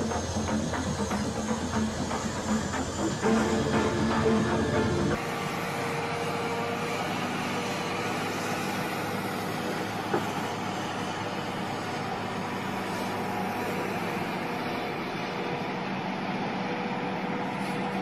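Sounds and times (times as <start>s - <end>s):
heavy machinery humming: 0.0s - 18.0s.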